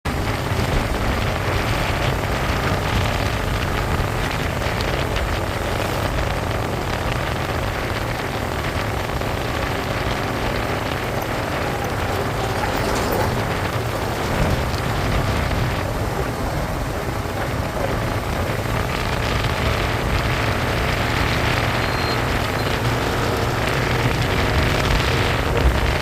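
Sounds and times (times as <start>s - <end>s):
motorcycle engine and road rumble: 0.0s - 26.0s
wind hiss over microphone: 0.1s - 26.0s.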